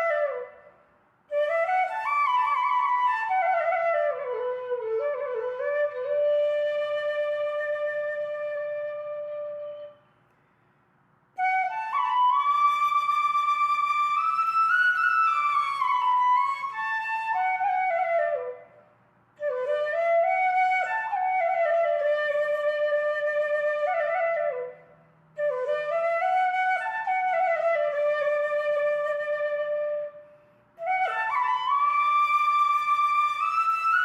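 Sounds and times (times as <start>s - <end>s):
solo flute slow melody: 0.0s - 10.2s, 11.4s - 18.8s, 19.4s - 34.0s.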